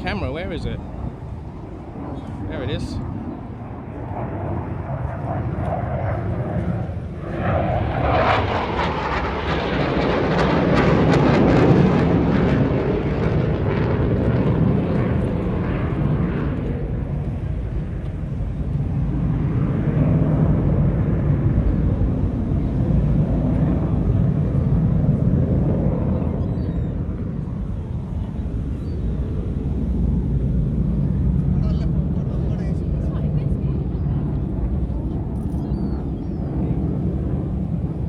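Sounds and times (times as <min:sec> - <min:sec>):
jet flying past: 0:00.0 - 0:38.0.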